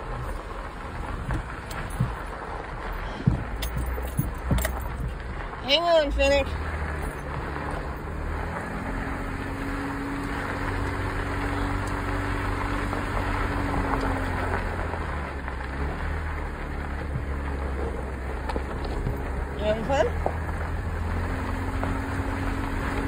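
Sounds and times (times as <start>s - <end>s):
engine pulling uphill: 0.0s - 23.0s
tyres over loose rock: 0.0s - 23.0s.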